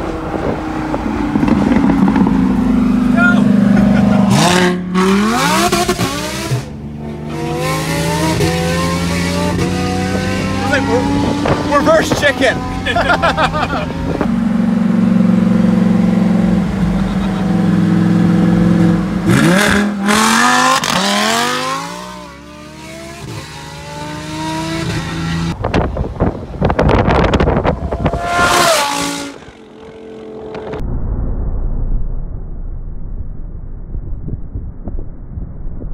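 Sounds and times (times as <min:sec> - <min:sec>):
car engine revving: 0:00.0 - 0:25.6, 0:26.7 - 0:30.8.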